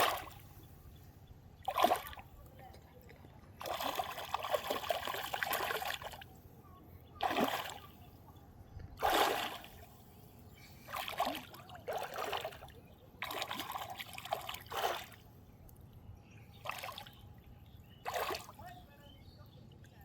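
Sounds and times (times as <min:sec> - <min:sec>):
water splashing and trickling: 0:00.0 - 0:00.9, 0:01.5 - 0:06.5, 0:07.2 - 0:15.8, 0:16.6 - 0:20.0.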